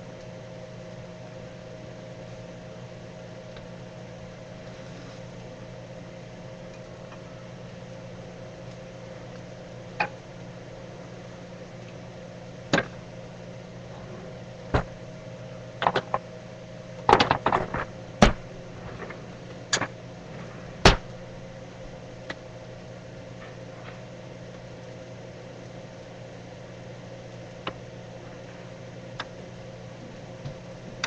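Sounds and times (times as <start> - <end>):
appliance hum: 0.0 - 31.0.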